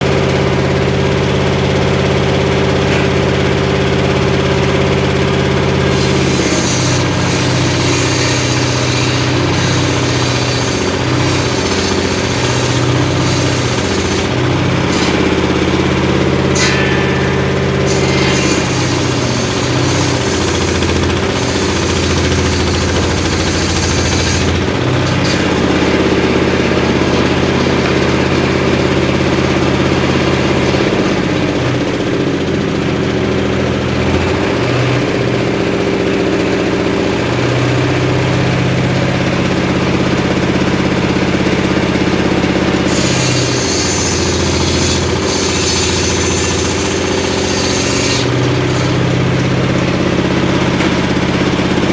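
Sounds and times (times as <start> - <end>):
engine running: 0.0 - 51.9
circular saw cutting wood: 1.6 - 28.5, 36.8 - 51.9.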